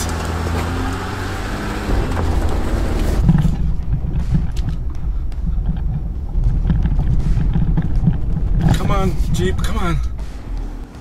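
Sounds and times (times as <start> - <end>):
vehicle engine crawling: 0.0 - 11.0.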